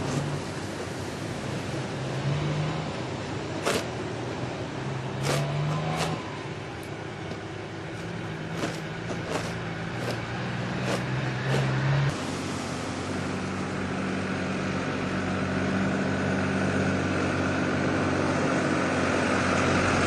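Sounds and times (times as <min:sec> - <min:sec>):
cars passing on a street: 0:00.0 - 0:20.0.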